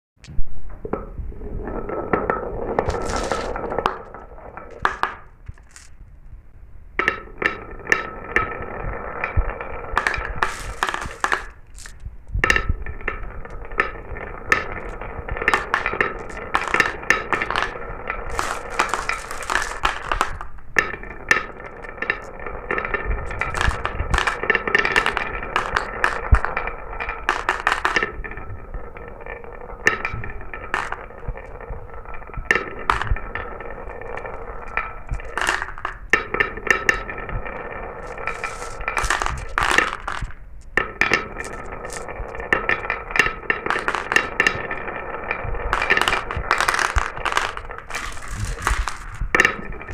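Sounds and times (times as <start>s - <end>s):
marbles rolling down a track: 0.9s - 6.0s, 7.0s - 49.9s
marbles clicking and clinking: 1.9s - 6.0s, 7.0s - 49.9s.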